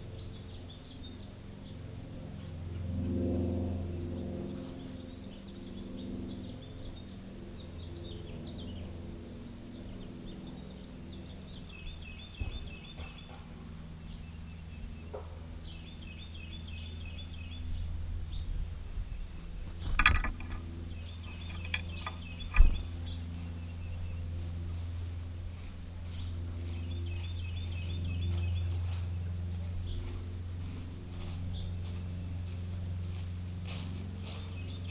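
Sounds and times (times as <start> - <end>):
songbirds calling: 0.0 - 34.9
steady low hum: 0.0 - 34.9.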